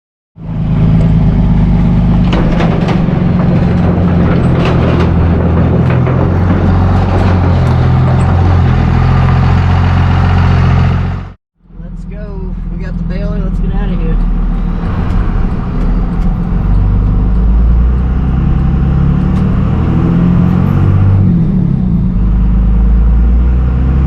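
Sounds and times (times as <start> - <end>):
road noise: 0.4 - 24.0
vehicle engine droning: 0.4 - 24.0.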